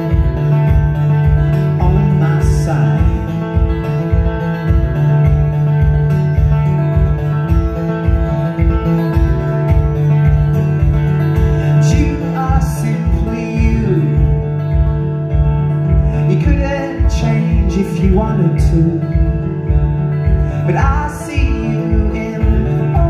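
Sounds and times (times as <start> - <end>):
acoustic guitar playing: 0.0 - 23.0
kick drum beat: 0.0 - 23.0.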